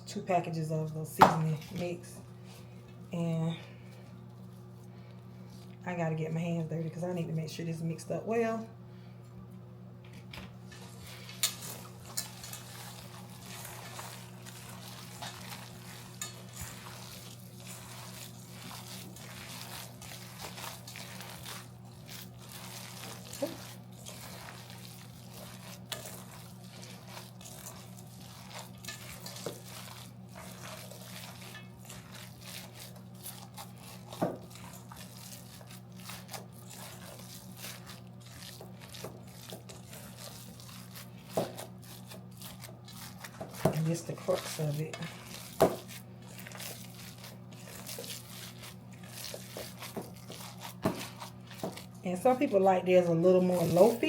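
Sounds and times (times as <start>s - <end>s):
hands kneading wet meat: 10.7s - 54.0s.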